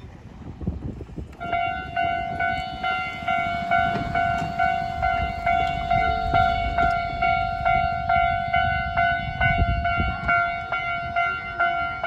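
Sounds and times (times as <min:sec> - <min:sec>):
level crossing warning bell: 0:01.4 - 0:12.0.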